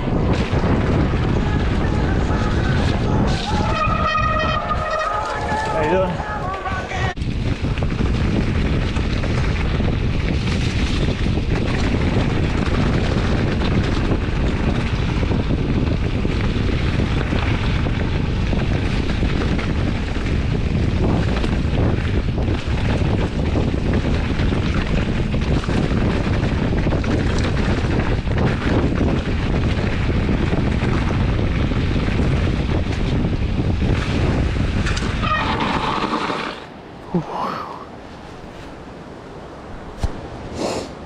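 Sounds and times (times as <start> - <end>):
bike rattle: 0.0 - 36.6
wind buffeting microphone: 0.0 - 41.0.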